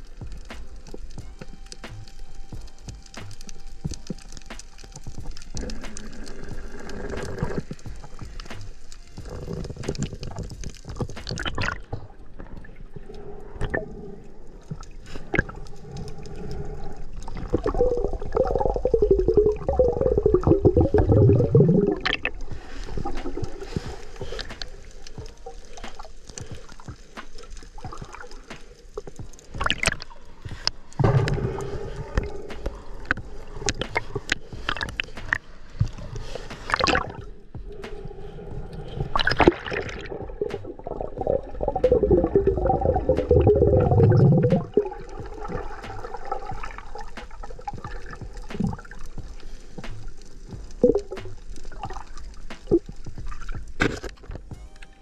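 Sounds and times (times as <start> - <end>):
sea water gurgling and sloshing: 2.7 - 54.5.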